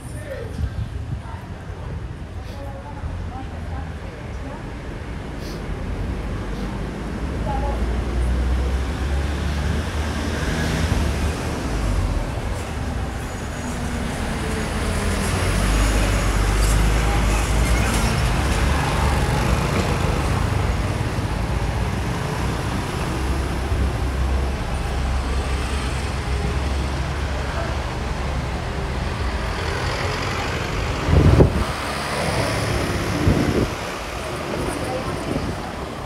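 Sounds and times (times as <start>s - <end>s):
street traffic: 0.0s - 36.0s
truck engine passing: 5.4s - 36.0s.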